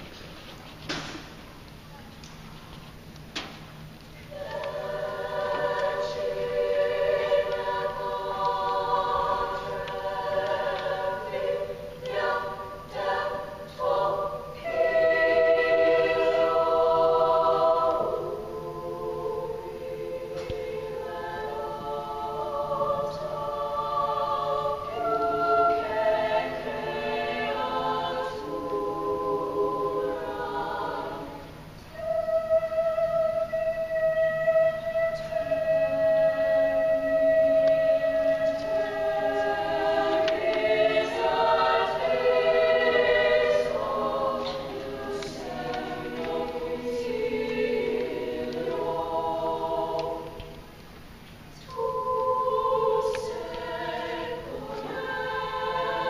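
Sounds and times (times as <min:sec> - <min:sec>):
girls' choir singing: 0:04.2 - 0:51.0, 0:51.6 - 0:56.0.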